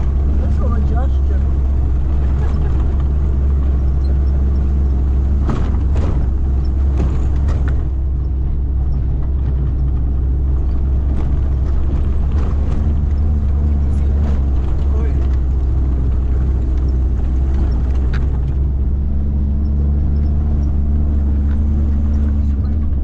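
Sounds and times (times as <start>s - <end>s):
short knocks and rattles: 0.0s - 23.0s
vehicle engine and road rumble: 0.0s - 23.0s.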